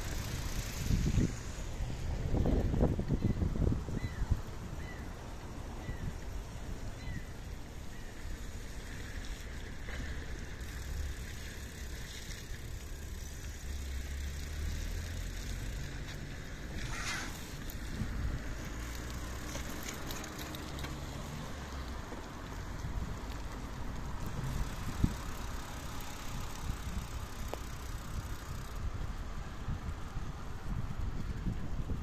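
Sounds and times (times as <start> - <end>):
wind rumble on microphone: 0.0 - 13.7, 14.6 - 32.0
bicycle tyres on wet road: 0.0 - 32.0.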